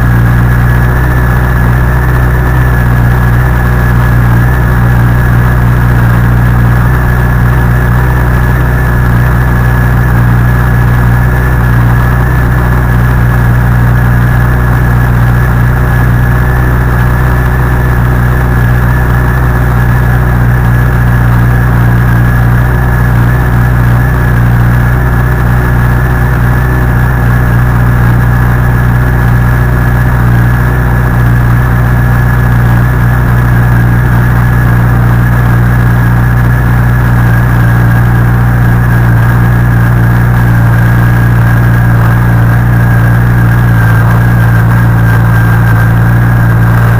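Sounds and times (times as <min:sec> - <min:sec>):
abnormal mechanical engine noise: 0:00.0 - 0:46.9
motorcycle engine idling: 0:00.0 - 0:46.9.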